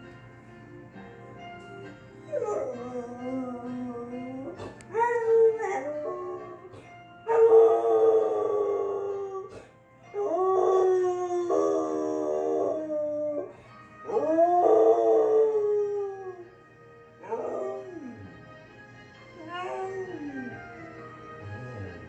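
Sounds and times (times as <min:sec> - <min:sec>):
music from television: 0:00.0 - 0:22.0
dog howling: 0:02.3 - 0:16.6, 0:17.2 - 0:18.6, 0:19.4 - 0:22.0.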